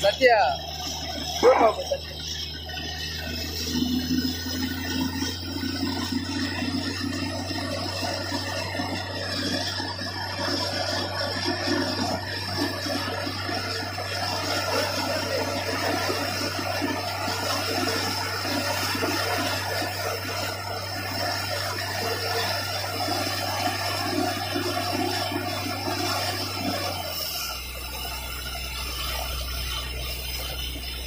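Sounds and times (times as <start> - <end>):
drilling rig humming: 0.0 - 31.0
water and rock spraying: 0.0 - 31.0.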